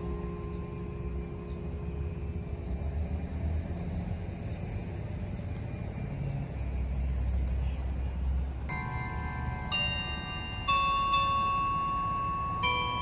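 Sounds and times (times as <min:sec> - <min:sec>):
passing street traffic: 0:00.0 - 0:13.0.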